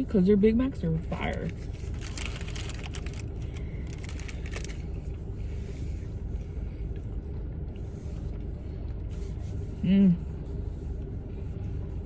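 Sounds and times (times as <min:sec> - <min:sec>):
car idling from inside: 0:00.0 - 0:12.0.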